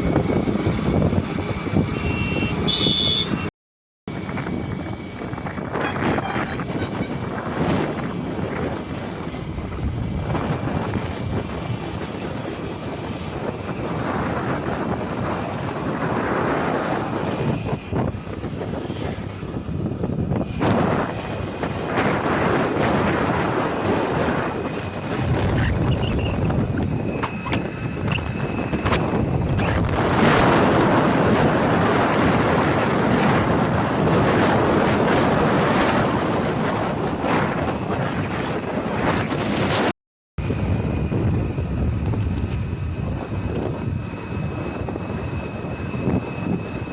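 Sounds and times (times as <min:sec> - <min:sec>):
wind buffeting microphone: 0:00.0 - 0:03.5, 0:04.1 - 0:46.9.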